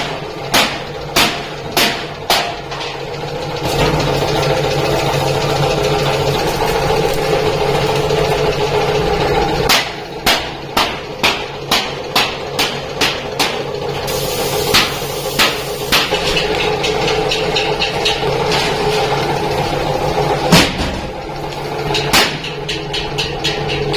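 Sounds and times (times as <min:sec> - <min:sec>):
machine running hum: 0:00.0 - 0:23.9.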